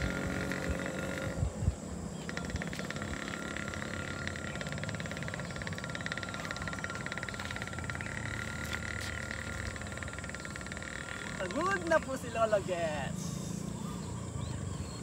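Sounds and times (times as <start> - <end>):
frogs trilling chorus: 0.0 - 15.0.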